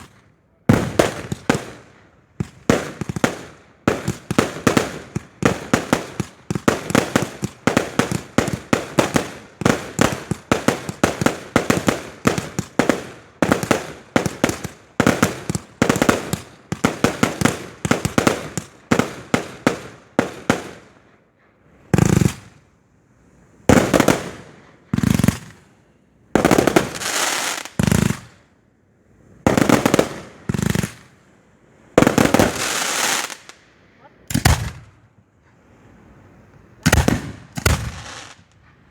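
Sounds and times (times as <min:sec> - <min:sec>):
firework bangs: 0:00.0 - 0:20.8, 0:21.9 - 0:22.6, 0:23.7 - 0:25.8, 0:26.4 - 0:28.4, 0:29.4 - 0:31.1, 0:31.9 - 0:33.6, 0:34.3 - 0:35.0, 0:36.8 - 0:38.9
firework bursts with hissing crackle: 0:00.0 - 0:22.7, 0:23.6 - 0:28.5, 0:29.3 - 0:35.0, 0:36.8 - 0:38.9.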